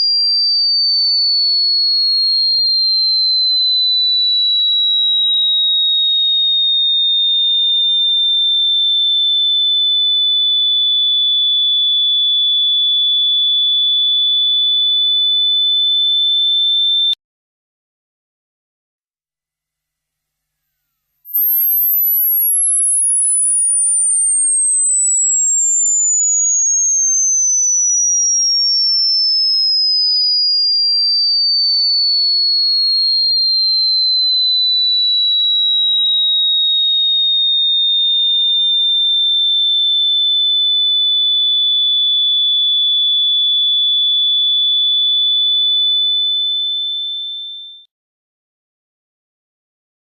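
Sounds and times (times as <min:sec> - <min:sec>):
high-pitched electronic sine tone: 0:00.0 - 0:06.8, 0:09.1 - 0:17.2, 0:21.3 - 0:47.9.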